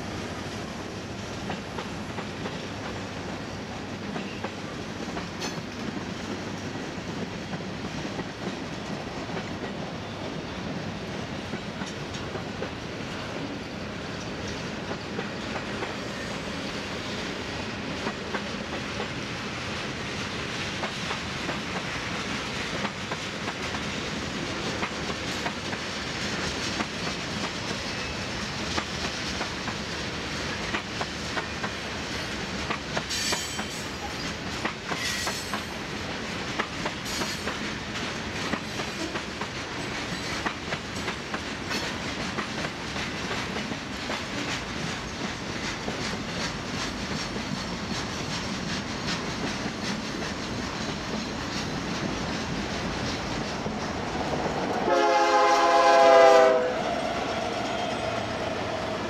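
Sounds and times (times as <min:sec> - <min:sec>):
train wheels clicking over rail joints: 0:00.9 - 0:12.8, 0:14.2 - 0:54.8.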